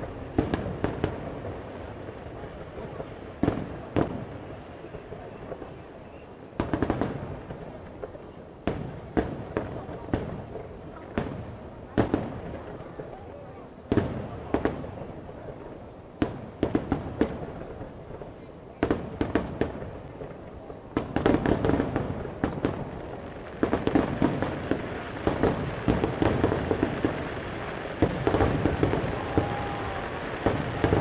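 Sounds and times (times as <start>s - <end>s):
fireworks bangs and pops: 0.0s - 31.0s.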